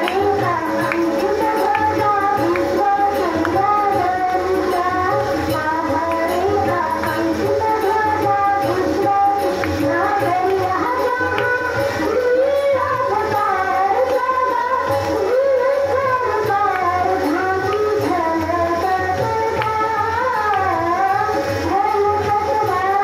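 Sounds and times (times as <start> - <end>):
hand drum: 0.0 - 23.0
harmonium: 0.0 - 23.0
woman singing into microphone: 0.0 - 23.0.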